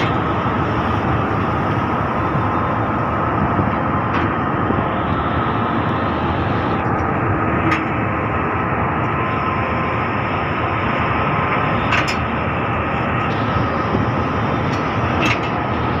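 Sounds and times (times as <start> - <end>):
ship rumbling under way: 0.0 - 16.0.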